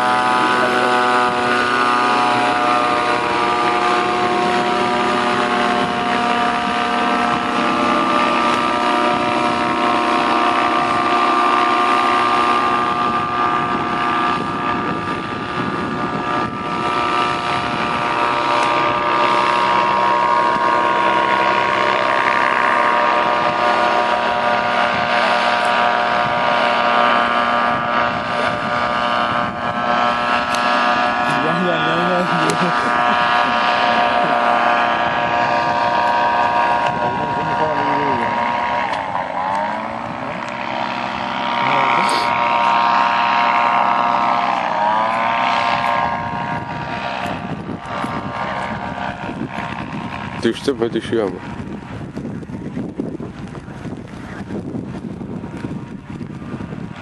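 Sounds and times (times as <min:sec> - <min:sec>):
paramotor engine drone overhead: 0:00.0 - 0:57.0.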